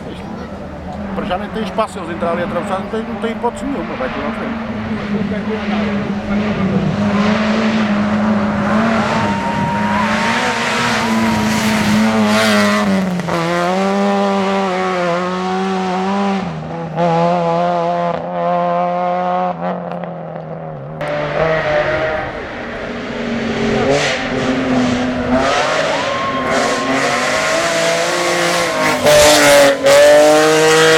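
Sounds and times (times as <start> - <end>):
car engine at high revs: 0.0 - 30.9.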